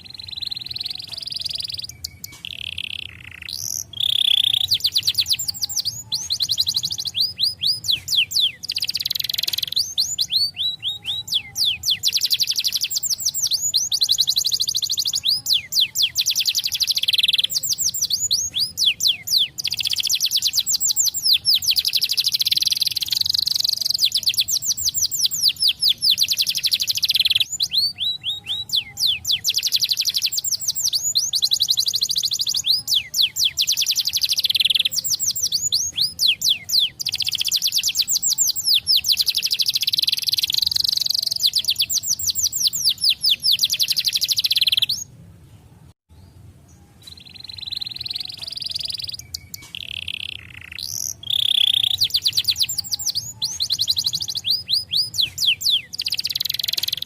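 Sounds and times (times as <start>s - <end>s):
canary singing trills: 0.0s - 45.2s, 46.1s - 57.0s.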